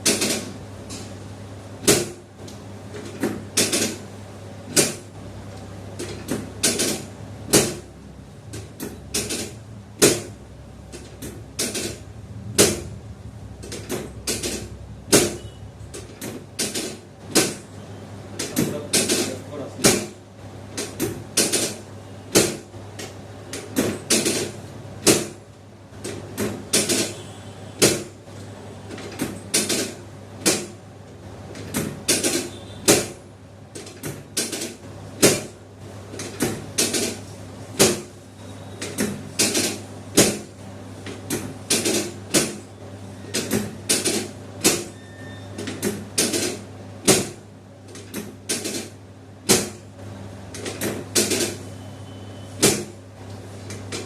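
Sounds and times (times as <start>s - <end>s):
steady low hum: 0.0s - 44.7s.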